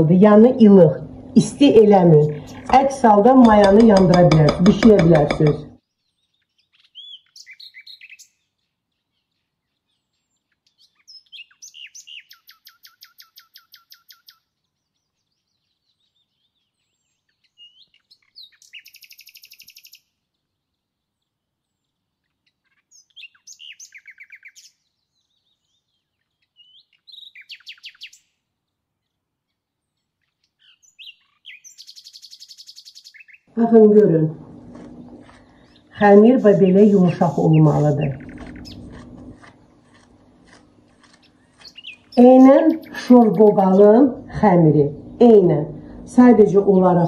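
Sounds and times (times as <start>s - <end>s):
songbird trilled chirps: 2.0s - 44.1s.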